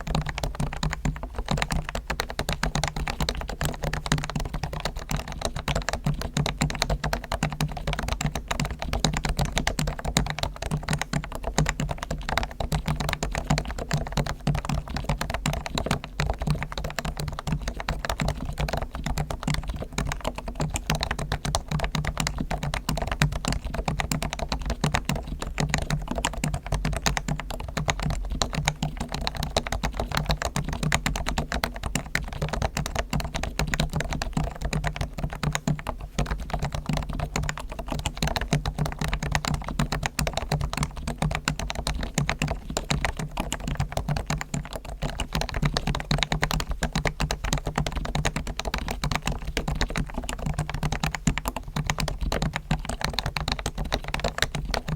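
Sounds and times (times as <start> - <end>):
rapid keyboard typing: 0.0 - 54.9.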